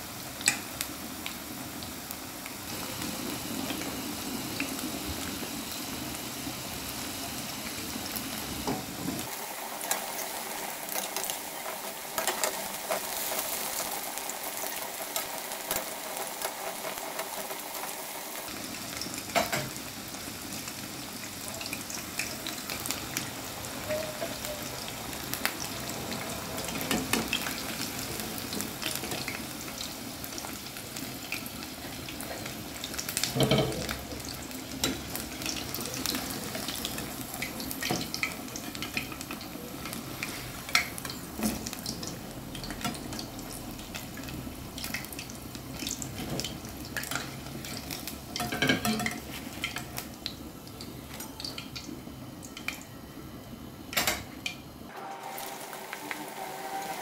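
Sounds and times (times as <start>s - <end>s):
deep-frying in hot oil: 0.0s - 57.0s.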